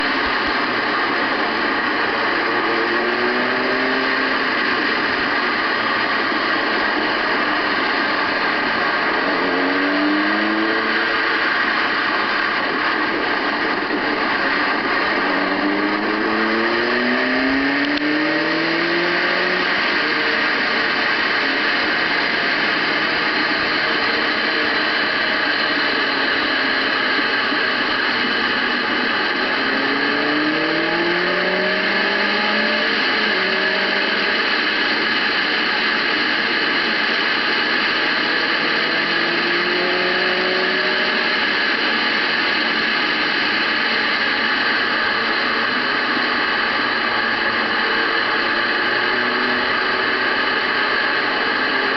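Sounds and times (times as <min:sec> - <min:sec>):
heavy motorcycle engine accelerating: 0:00.0 - 0:51.9.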